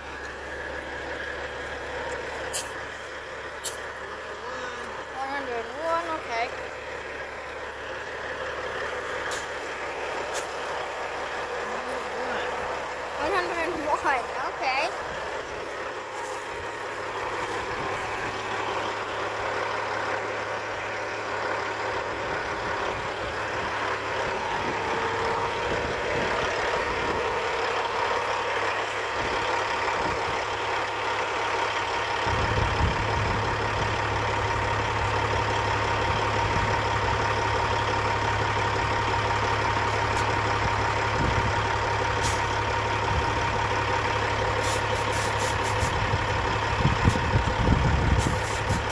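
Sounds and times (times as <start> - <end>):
engine idling with whine: 0.0 - 48.9.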